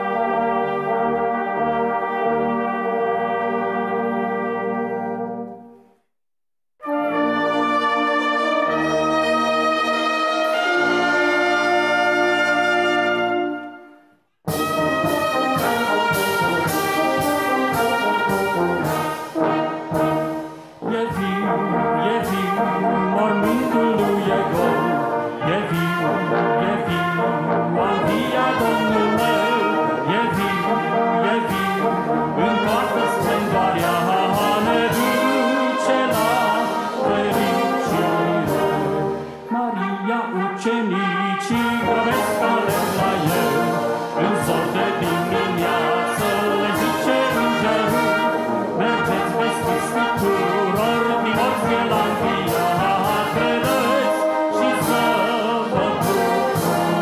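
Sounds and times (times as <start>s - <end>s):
brass band playing: 0.0s - 5.9s, 6.8s - 57.0s.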